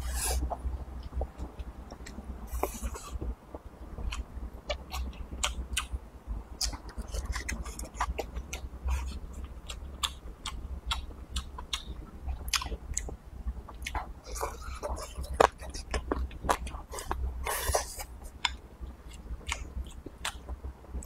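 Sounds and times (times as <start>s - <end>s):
man chewing food: 0.0s - 5.9s, 6.6s - 21.0s.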